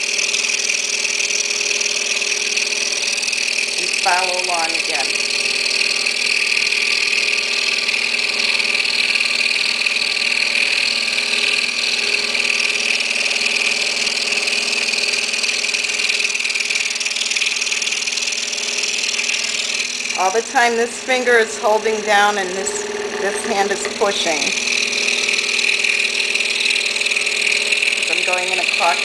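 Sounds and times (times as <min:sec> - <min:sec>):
scroll saw cutting wood: 0:00.0 - 0:29.0.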